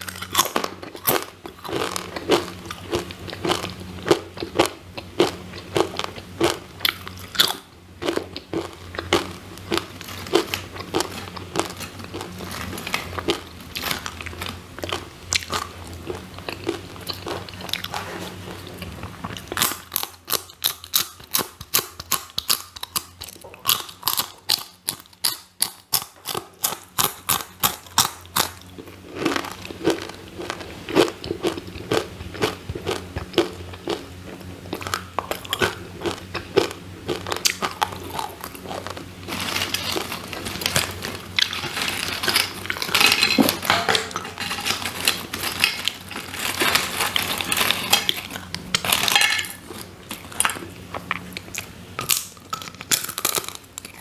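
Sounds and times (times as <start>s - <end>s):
chips crunching between teeth: 0.0s - 54.0s
dry crackling of chips: 0.0s - 54.0s.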